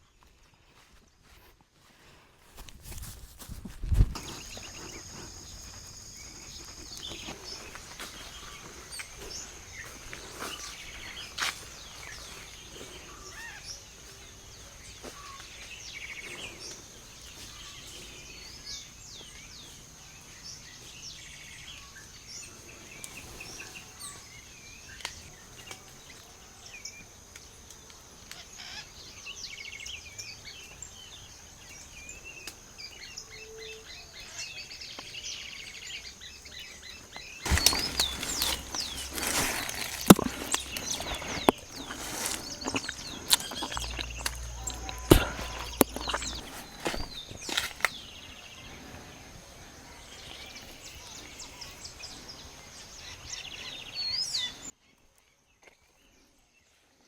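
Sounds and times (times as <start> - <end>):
small birds chirping: 2.9 - 56.8.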